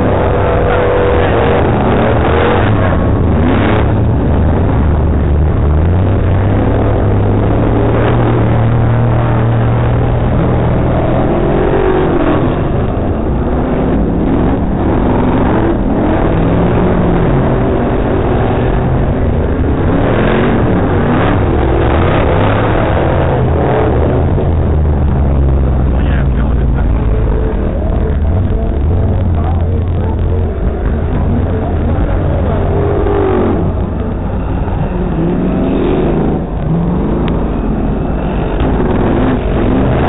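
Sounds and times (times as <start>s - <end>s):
race car engines revving: 0.0s - 40.0s.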